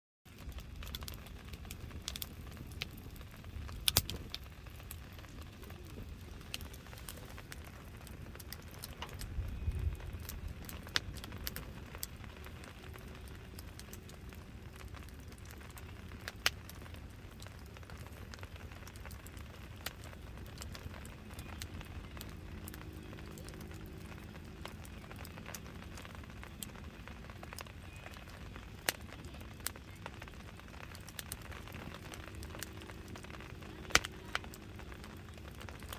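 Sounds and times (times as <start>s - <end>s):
campfire crackling and popping: 0.3s - 35.9s.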